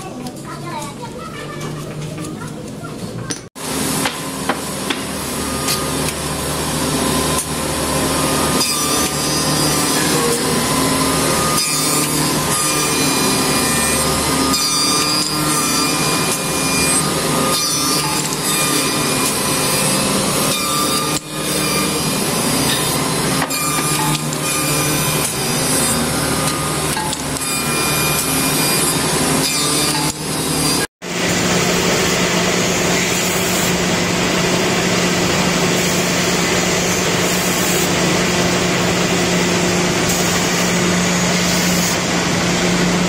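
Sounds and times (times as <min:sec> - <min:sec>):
woodworking machine milling wood: 0:03.6 - 0:43.0.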